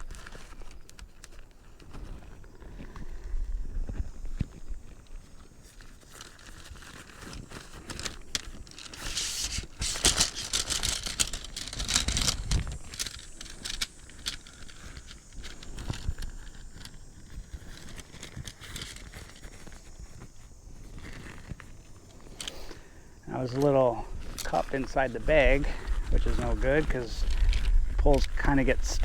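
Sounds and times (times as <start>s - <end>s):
nylon bag rustling and crinkling: 0.0s - 29.0s
tent poles clicking and knocking: 0.0s - 29.0s.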